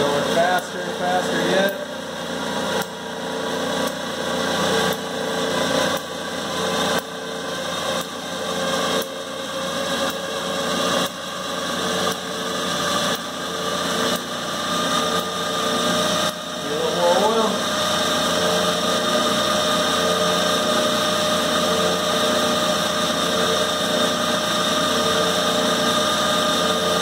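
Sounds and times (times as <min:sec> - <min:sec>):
lathe motor humming: 0:00.0 - 0:27.0.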